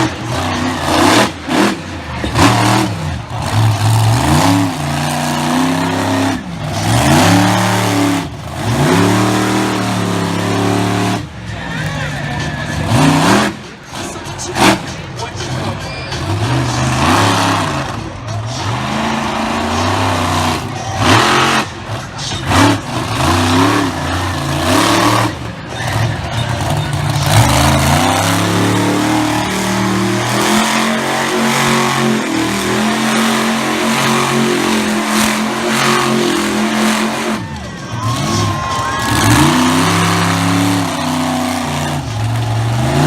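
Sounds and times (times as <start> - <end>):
truck engine revving hard: 0.0 - 43.0.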